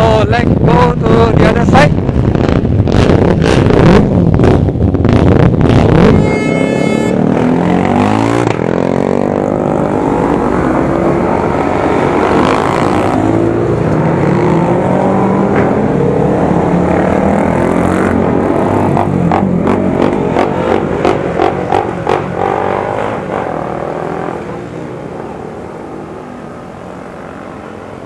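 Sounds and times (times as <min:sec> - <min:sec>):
racing motorcycles revving: 0:00.0 - 0:28.0.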